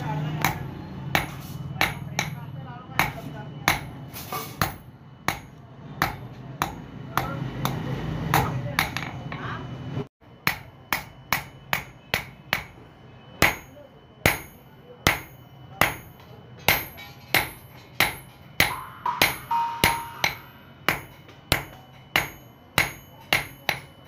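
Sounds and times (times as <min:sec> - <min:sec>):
hammer striking steel on anvil: 0:00.0 - 0:09.5, 0:10.3 - 0:24.0.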